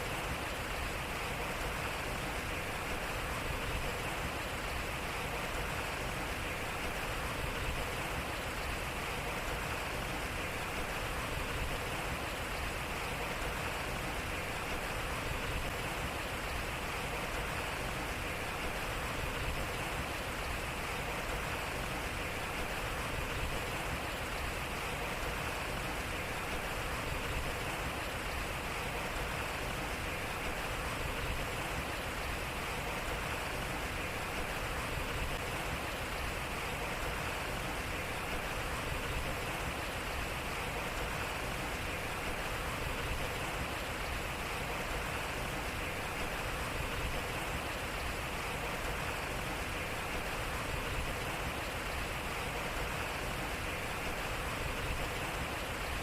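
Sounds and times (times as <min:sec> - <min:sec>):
water splashing at waterwheel: 0:00.0 - 0:56.0.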